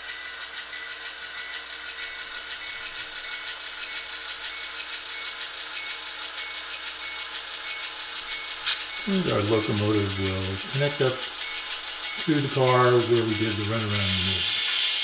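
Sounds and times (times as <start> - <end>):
model diesel engine sound: 0.0 - 15.0.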